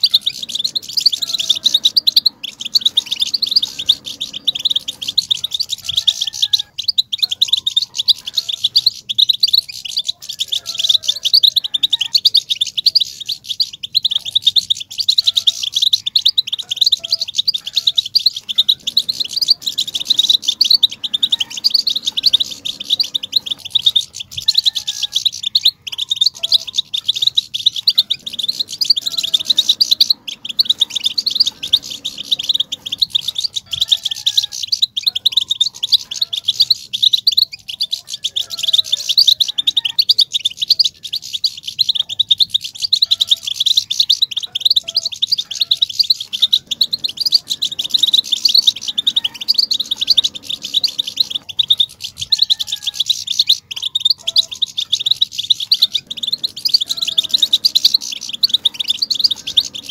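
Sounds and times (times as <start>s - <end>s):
goldfinches twittering: 0.0s - 59.9s.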